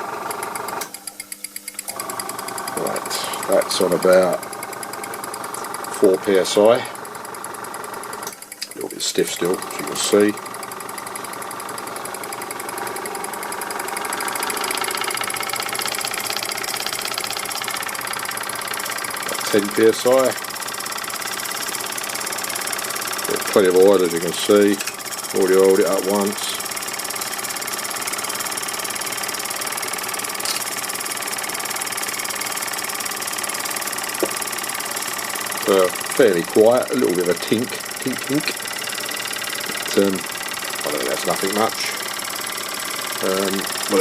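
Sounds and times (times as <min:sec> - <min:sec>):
model steam engine clattering: 0:01.9 - 0:07.3, 0:08.0 - 0:28.5, 0:33.8 - 0:44.0.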